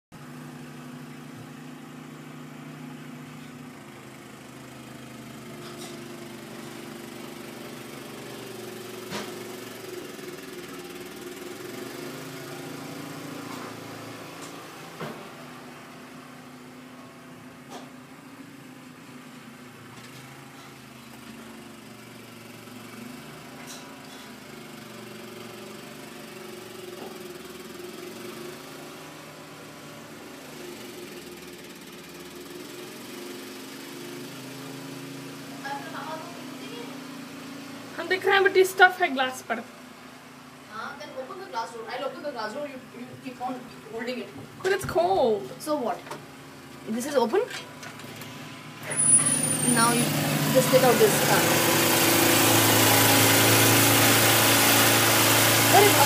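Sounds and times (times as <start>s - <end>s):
engine running: 0.1s - 56.0s.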